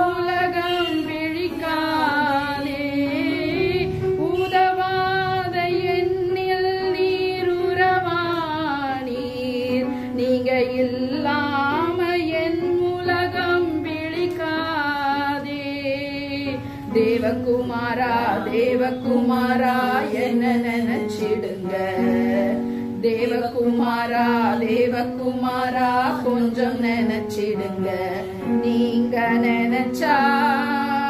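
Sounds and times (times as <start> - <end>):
woman singing worship song: 0.0 - 31.0.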